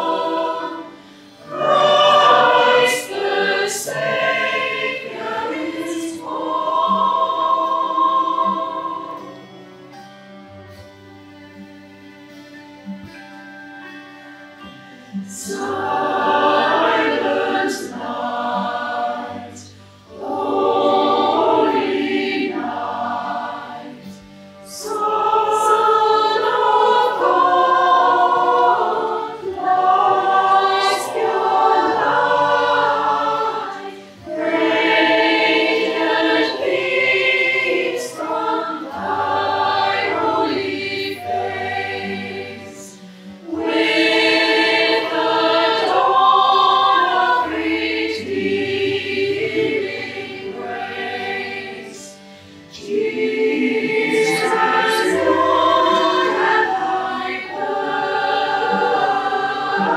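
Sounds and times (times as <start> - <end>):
choir singing: 0.0 - 10.8, 14.6 - 59.9.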